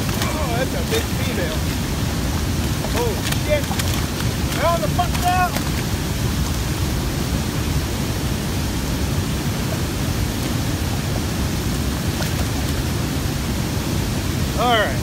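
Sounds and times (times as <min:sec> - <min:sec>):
water rushing over spillway: 0:00.0 - 0:15.0.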